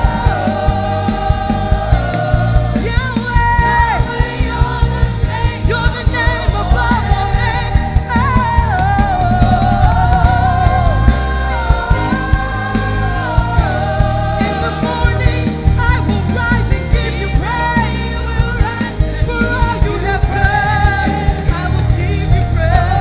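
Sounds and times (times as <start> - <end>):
band with heavy bass: 0.0 - 23.0
group of singers singing: 0.0 - 23.0.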